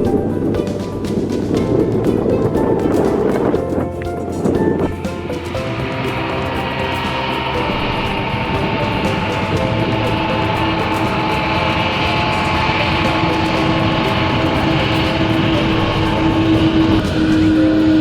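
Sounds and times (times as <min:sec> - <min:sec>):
jet airliner engines running: 0:00.0 - 0:18.0.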